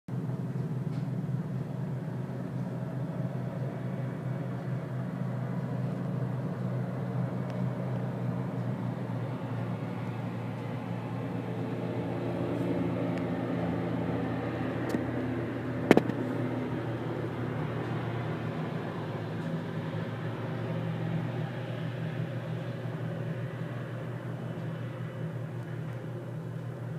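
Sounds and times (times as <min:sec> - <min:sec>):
distant traffic rumble: 0:00.1 - 0:26.9
engine drone: 0:00.1 - 0:26.9.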